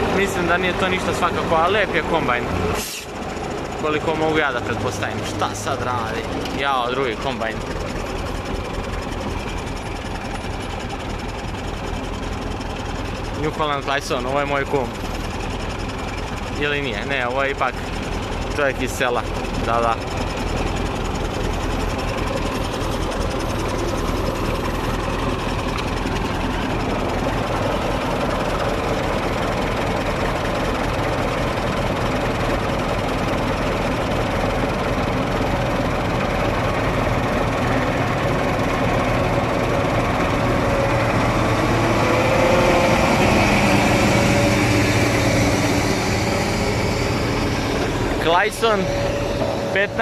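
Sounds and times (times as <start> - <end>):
heavy diesel engine running: 0.0 - 50.0.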